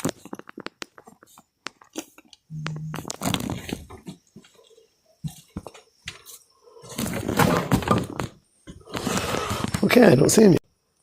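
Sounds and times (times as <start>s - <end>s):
rustling and crackling of handled things: 0.0s - 9.9s.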